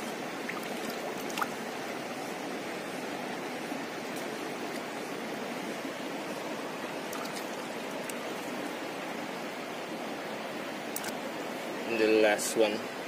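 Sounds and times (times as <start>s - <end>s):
shallow river water flowing: 0.0s - 13.0s.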